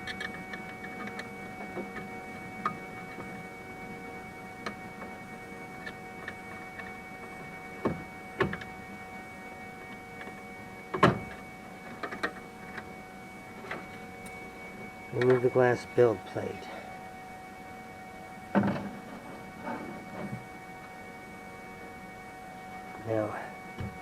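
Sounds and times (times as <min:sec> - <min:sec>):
printer humming fixed tones: 0:00.0 - 0:24.0.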